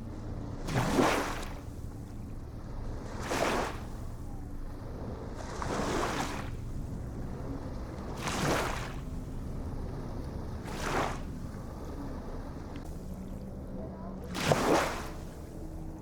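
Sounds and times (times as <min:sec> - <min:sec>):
low rumble of surf: 0:00.0 - 0:16.0
small waves splashing: 0:00.0 - 0:16.0.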